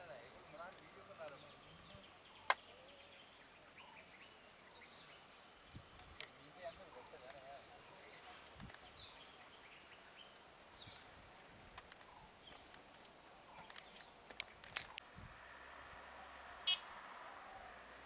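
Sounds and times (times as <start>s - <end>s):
birds chirping: 0.0s - 15.0s, 16.2s - 18.0s.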